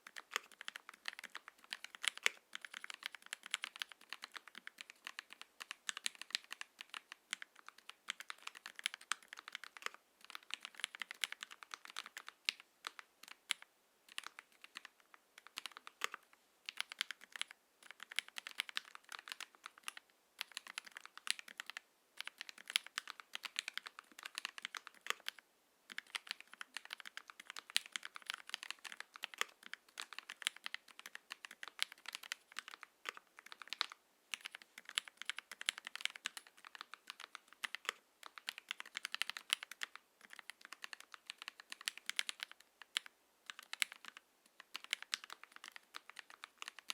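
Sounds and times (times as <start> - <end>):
mechanical keyboard typing: 0.0 - 46.9.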